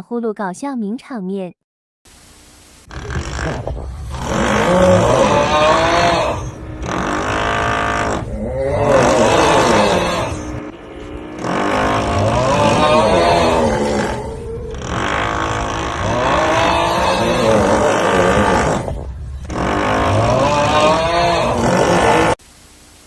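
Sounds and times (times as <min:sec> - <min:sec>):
person snoring loudly: 0:02.9 - 0:22.4.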